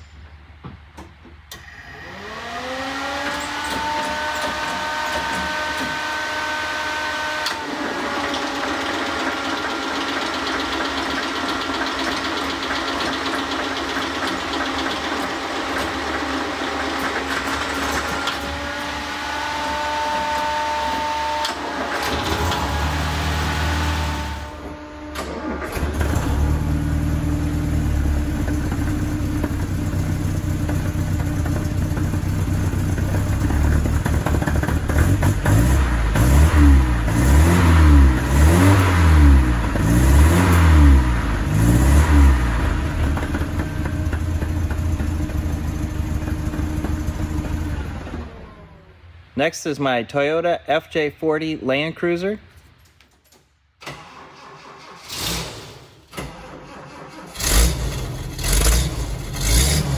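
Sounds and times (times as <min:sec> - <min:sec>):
engine running with deep rumble: 0:00.2 - 0:49.1, 0:57.1 - 0:59.9
engine starter whine: 0:01.0 - 0:49.2, 0:53.8 - 0:59.9.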